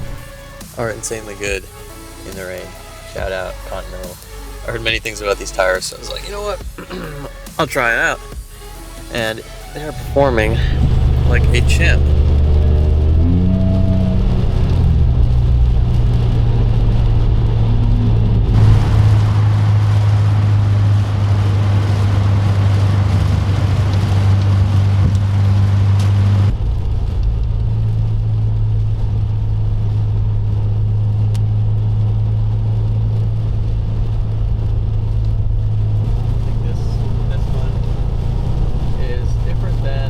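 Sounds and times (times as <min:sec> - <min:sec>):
car engine drone and road noise: 0:00.0 - 0:40.0.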